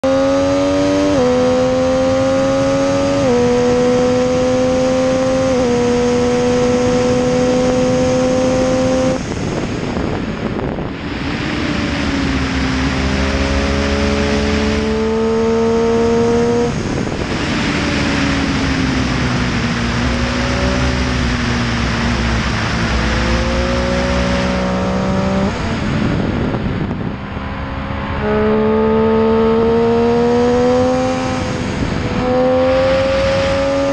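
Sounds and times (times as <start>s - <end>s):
motorcycle engine accelerating: 0.0s - 33.9s
wind rush on microphone: 0.0s - 33.9s.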